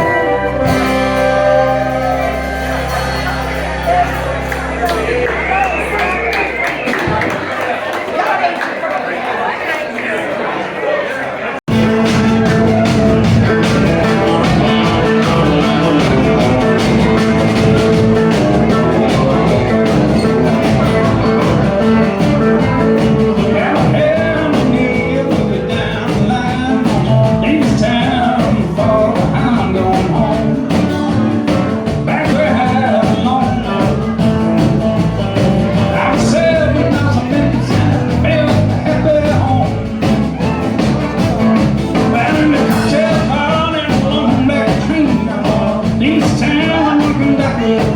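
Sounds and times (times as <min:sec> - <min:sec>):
live country band playing: 0:00.0 - 0:07.7, 0:11.7 - 0:47.9.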